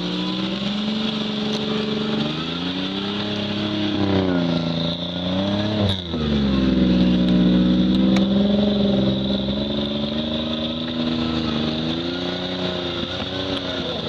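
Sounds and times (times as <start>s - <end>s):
engine revving high: 0.0s - 14.0s.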